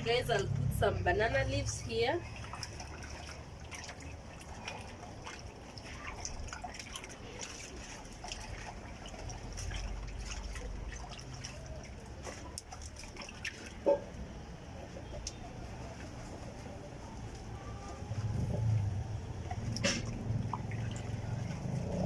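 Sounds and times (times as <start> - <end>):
drips: 0.0 - 22.0.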